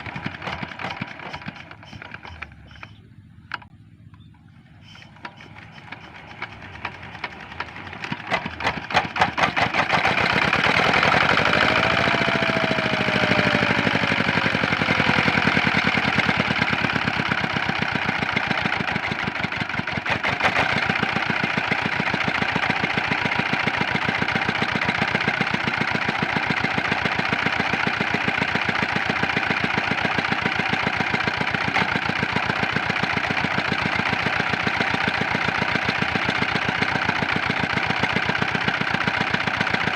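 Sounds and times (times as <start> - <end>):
diesel engine hand-cranked and running: 0.0 - 39.9.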